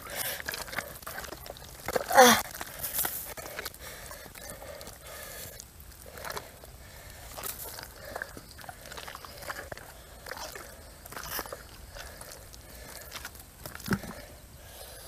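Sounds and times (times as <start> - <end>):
wet mud squelching: 0.0 - 15.0.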